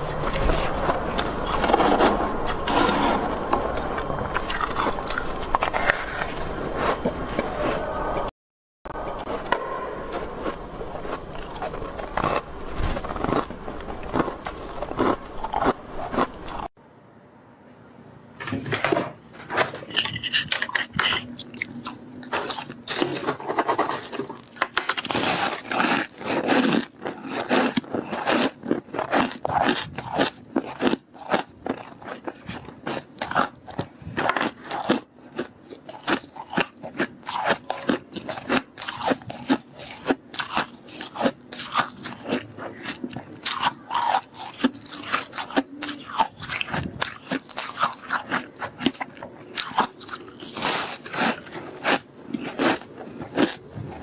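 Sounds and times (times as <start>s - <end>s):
freezer frost crunching: 0.0s - 8.3s, 9.0s - 16.7s, 18.4s - 54.0s.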